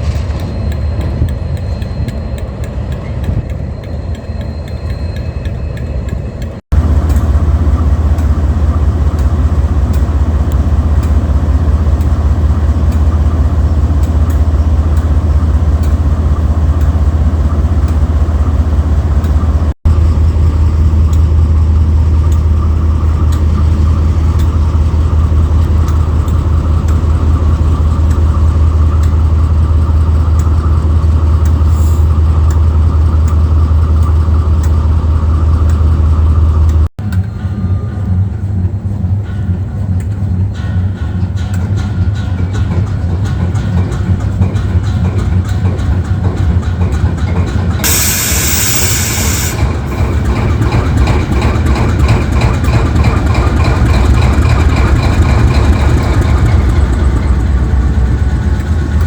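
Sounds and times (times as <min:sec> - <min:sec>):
locomotive engine droning: 0:00.0 - 0:59.0.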